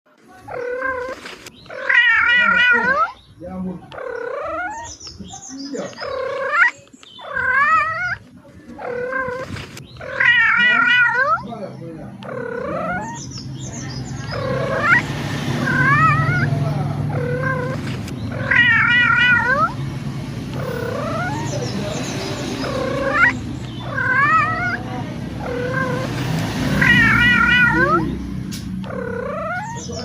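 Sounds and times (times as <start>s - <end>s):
cat meowing: 0.4s - 3.2s, 3.9s - 5.0s, 5.9s - 8.2s, 8.8s - 11.5s, 12.2s - 19.8s, 20.6s - 22.0s, 22.6s - 28.2s, 28.8s - 30.0s.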